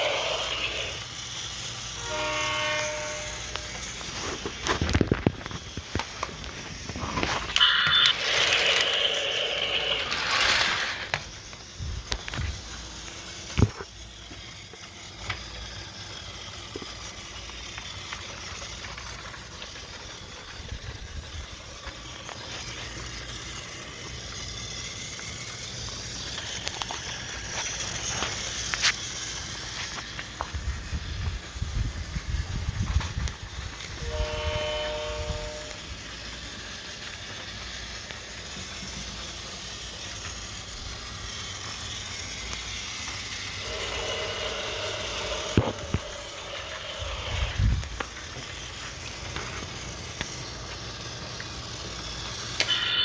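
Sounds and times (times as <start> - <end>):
loud multi-tone toy sound: 0.0 - 30.4, 32.3 - 53.0
toy train rattling on plastic track: 0.0 - 53.0.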